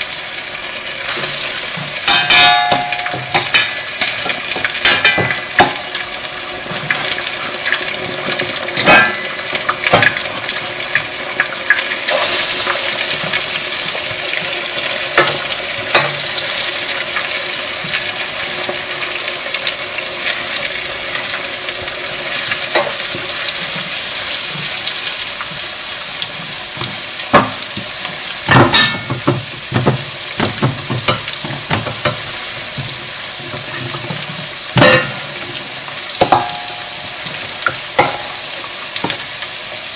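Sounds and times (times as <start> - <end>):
chicken frying in hot oil: 0.0 - 39.9.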